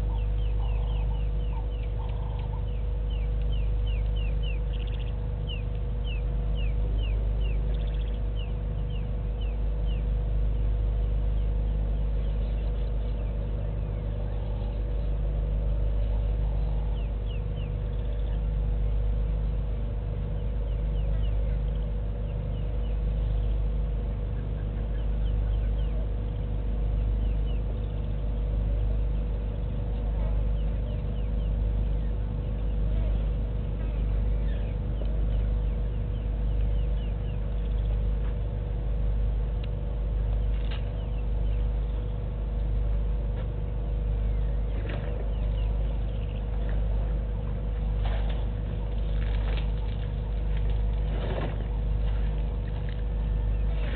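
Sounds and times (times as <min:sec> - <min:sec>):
pulsing low hum: 0:00.0 - 0:53.9.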